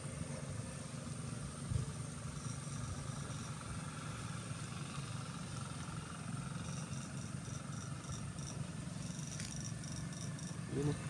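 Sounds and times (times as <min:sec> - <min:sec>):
electrofishing shocker humming: 0:00.0 - 0:11.0.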